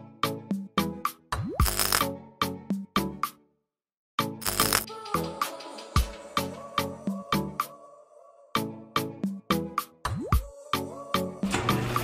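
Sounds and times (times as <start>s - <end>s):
background music with steady beat: 0.0s - 3.4s, 4.2s - 7.8s, 8.5s - 12.0s.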